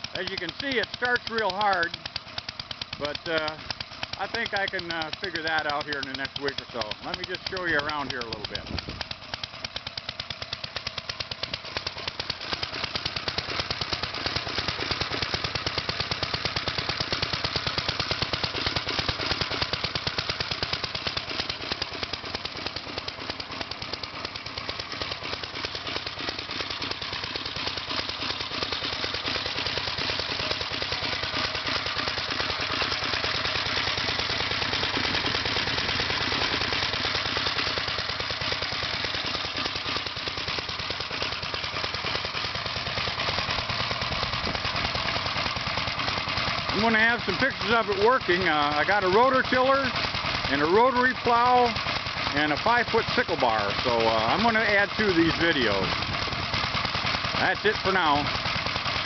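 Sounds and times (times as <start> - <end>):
single-cylinder tractor engine running: 0.0 - 59.0.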